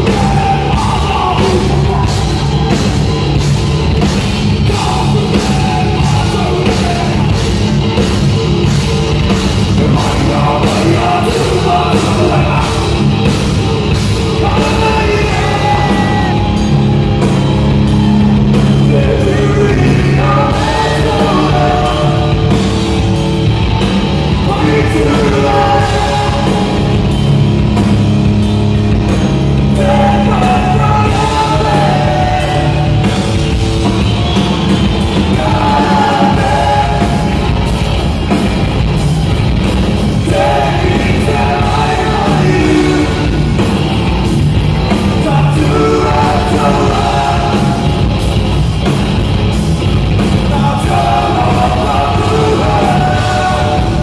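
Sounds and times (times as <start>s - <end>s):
bass and drums: 0.0s - 54.0s
distorted electric guitars: 0.0s - 54.0s
sung and shouted lead vocal: 0.0s - 54.0s.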